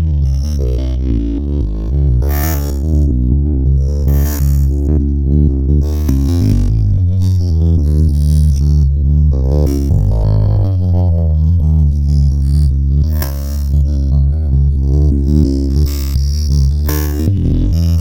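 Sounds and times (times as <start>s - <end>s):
electronic music with deep bass: 0.0s - 18.0s.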